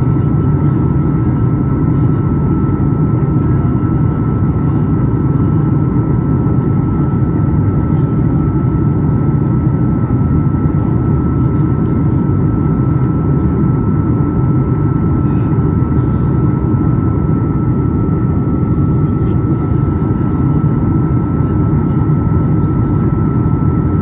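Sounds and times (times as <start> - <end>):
airplane cabin engine roar: 0.0 - 24.0
high engine whine: 0.0 - 24.0.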